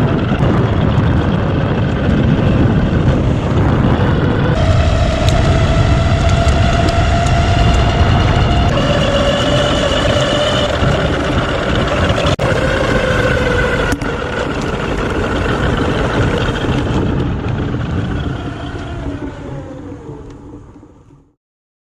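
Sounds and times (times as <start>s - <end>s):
car whining on road: 0.0s - 21.4s.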